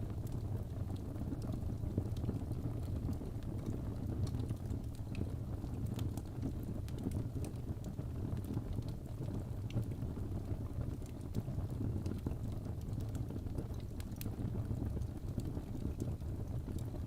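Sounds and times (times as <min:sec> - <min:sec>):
burning wood crackling and popping: 0:00.0 - 0:17.0
low rumble of flames: 0:00.0 - 0:17.0.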